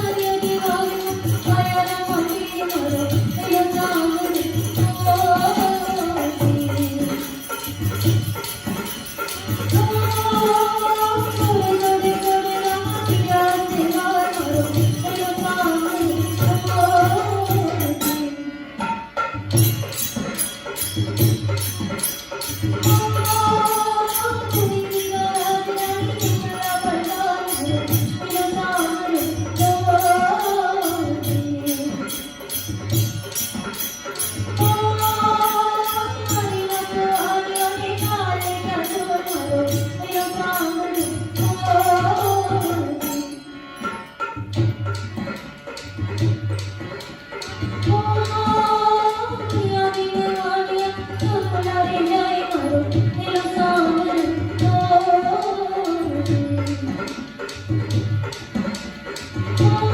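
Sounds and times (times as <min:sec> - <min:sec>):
jingling percussion: 0:00.0 - 0:59.9.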